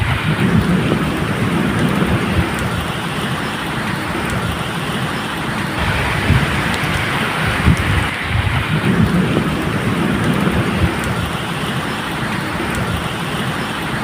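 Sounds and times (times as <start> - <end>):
distant thunder rumble: 0.0 - 14.0
steady rain: 0.0 - 14.0.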